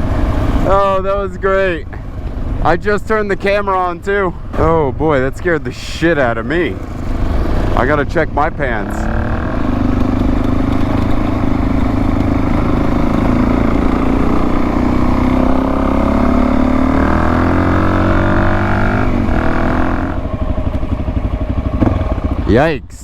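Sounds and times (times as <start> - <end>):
motorcycle engine accelerating: 0.0 - 22.8.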